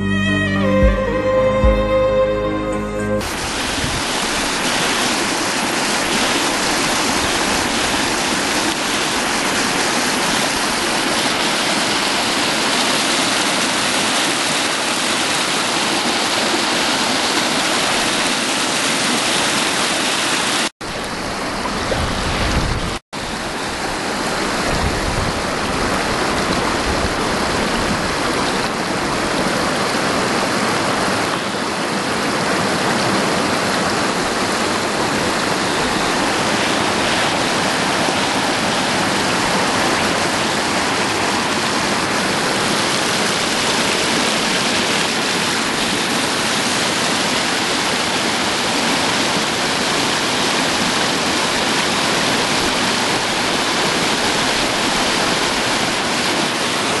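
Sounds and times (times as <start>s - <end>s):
water rushing over rock: 3.2s - 57.0s.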